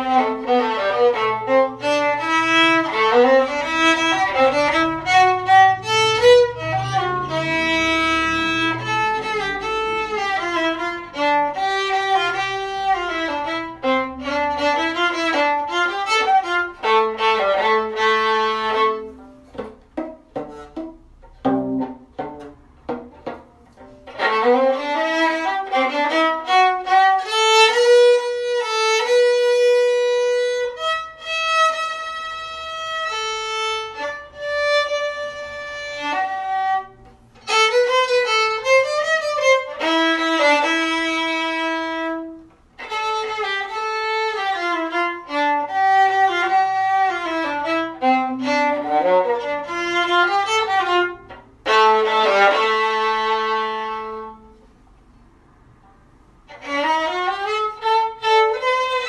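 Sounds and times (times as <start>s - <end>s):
violin melody: 0.0s - 54.7s, 55.7s - 59.0s.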